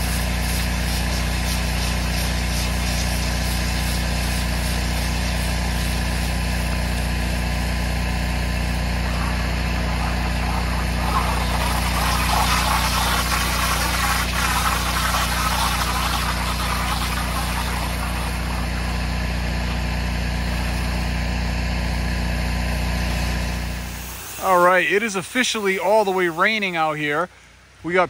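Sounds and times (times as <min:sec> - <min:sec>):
water spray hissing: 0:00.0 - 0:21.3, 0:22.8 - 0:27.3
pressure washer engine running: 0:00.0 - 0:27.3.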